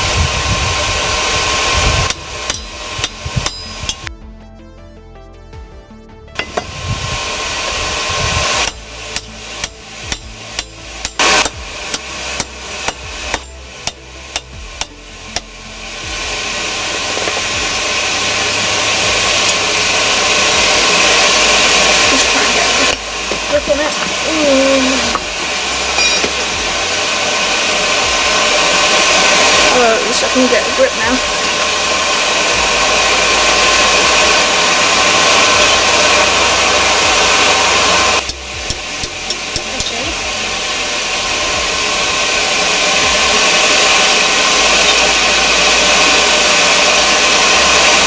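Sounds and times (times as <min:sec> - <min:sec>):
loud whooshing machine: 0:00.0 - 0:04.1, 0:06.4 - 0:48.0
motor-driven rushing noise: 0:00.0 - 0:04.1, 0:06.4 - 0:48.0
faint whine: 0:06.4 - 0:48.0.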